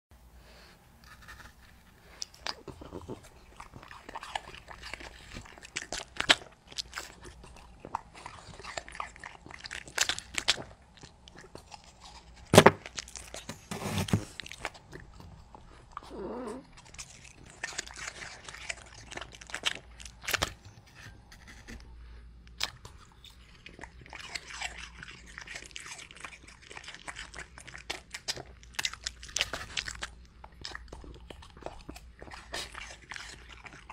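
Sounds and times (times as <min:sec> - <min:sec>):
dog crunching apple: 0:01.0 - 0:33.9.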